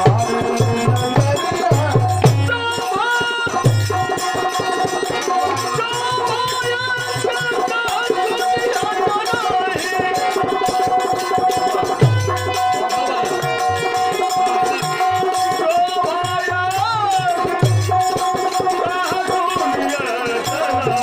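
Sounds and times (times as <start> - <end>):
fast rattling percussion: 0.0 - 21.0.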